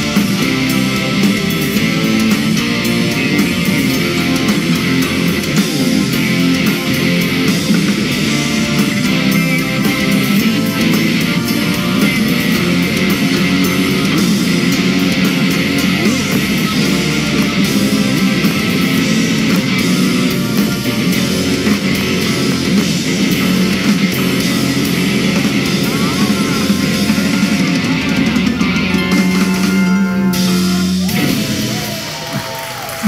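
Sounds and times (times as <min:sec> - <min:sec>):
rock band playing: 0:00.0 - 0:33.0.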